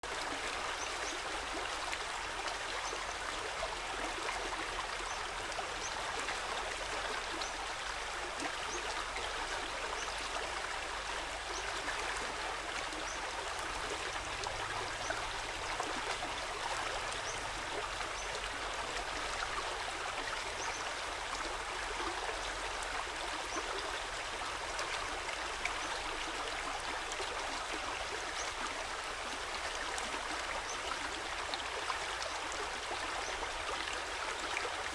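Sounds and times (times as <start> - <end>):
water flowing in a stream: 0.0 - 34.9.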